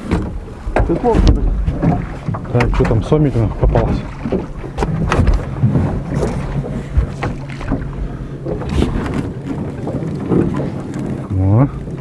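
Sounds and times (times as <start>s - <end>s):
boat motor idling: 0.0s - 12.0s.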